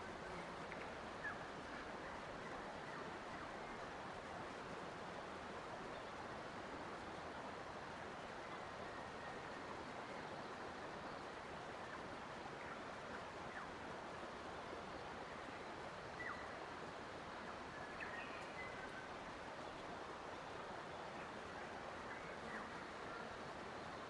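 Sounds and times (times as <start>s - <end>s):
soft rushing hiss: 0.0s - 24.0s.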